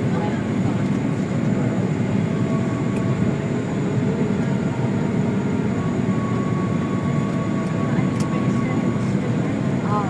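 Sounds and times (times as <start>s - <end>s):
airliner cabin low rumble: 0.0s - 10.0s.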